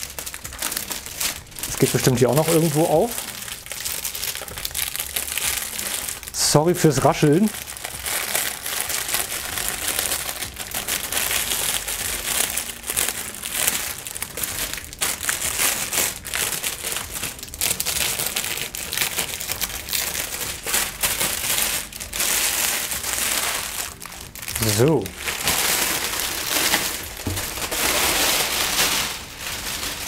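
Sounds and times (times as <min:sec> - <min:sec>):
plastic wrap rustling and crackling: 0:00.0 - 0:30.0.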